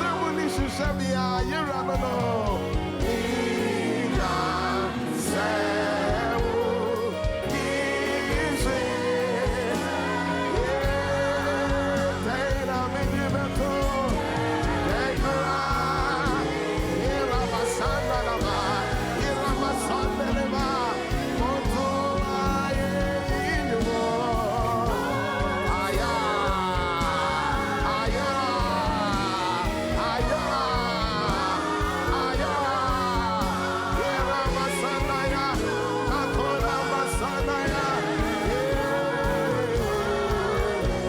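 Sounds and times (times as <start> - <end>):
band accompaniment with beat: 0.0 - 41.0
voices singing gospel: 0.0 - 41.0.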